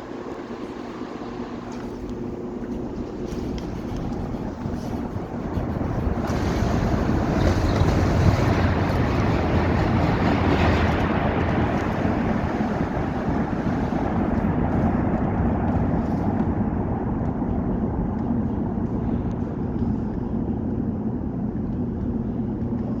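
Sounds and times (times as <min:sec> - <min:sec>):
wheels rumbling on rails: 0:01.3 - 0:23.0
train rush of wind: 0:02.2 - 0:21.6.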